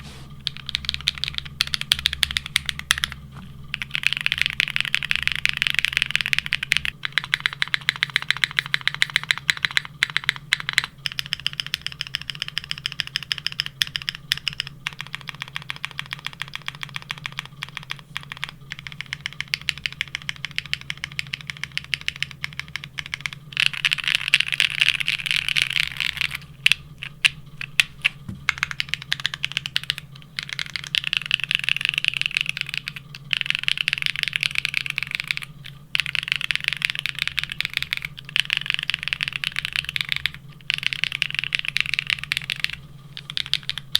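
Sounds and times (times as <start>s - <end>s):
mechanical keyboard typing: 0.4s - 43.9s.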